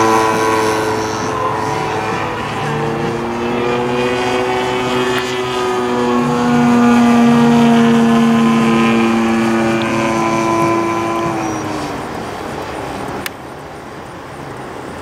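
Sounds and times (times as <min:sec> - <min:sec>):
model plane engine droning: 0:00.0 - 0:15.0.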